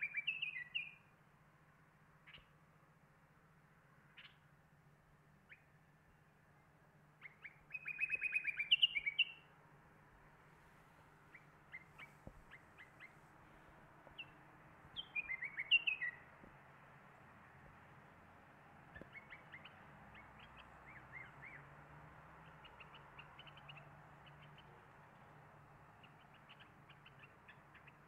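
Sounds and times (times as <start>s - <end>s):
songbird chirps and trills: 0.0s - 1.2s, 2.1s - 2.6s, 3.9s - 28.0s.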